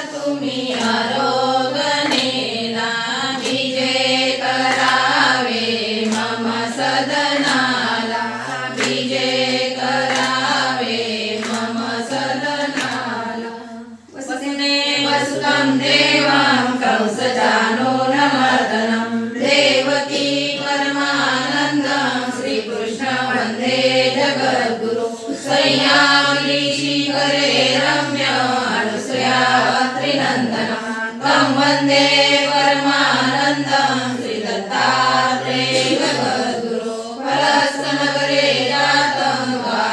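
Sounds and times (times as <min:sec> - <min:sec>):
group chanting a hymn: 0:00.0 - 0:39.9.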